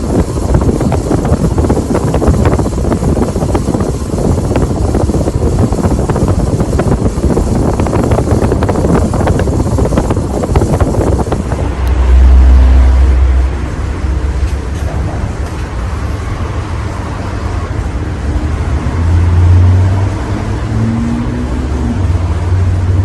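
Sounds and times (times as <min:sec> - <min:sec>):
ceiling fan rumbling whoosh: 0:00.0 - 0:23.0.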